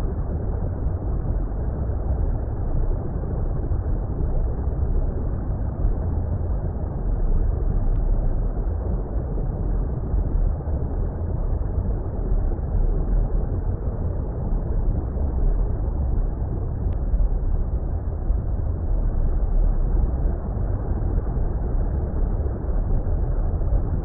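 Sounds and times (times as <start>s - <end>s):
low rumbling water: 0.0s - 24.0s.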